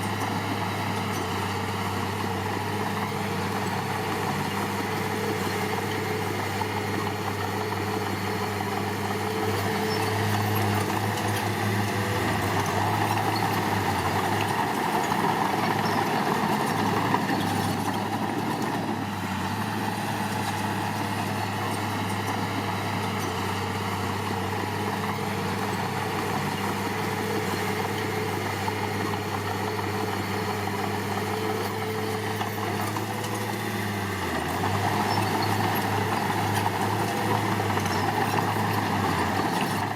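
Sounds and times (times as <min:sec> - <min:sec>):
diesel construction machinery engine: 0:00.0 - 0:39.9.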